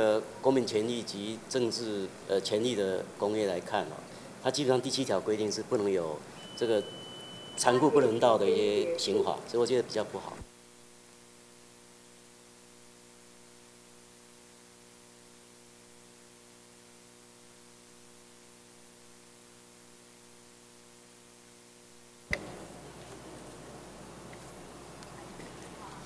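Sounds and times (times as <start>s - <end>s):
electrical hum and hiss: 0.0s - 26.0s.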